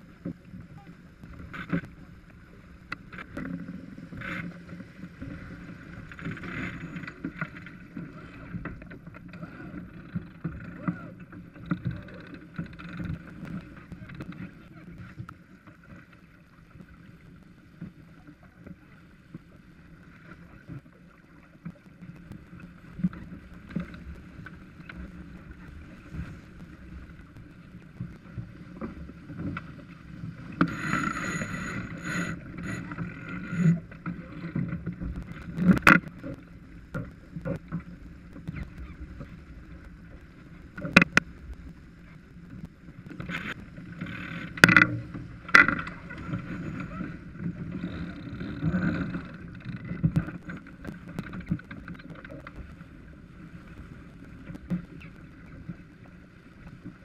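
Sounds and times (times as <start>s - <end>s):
water rushing along boat hull: 0.0s - 57.0s.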